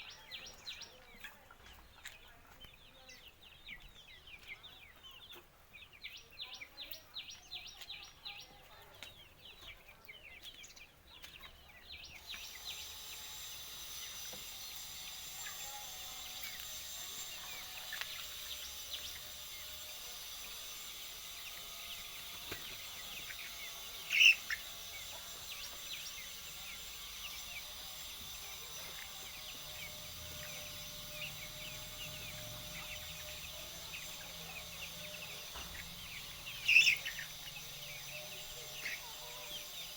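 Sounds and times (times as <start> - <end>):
chickens chirping: 0.0 - 39.9.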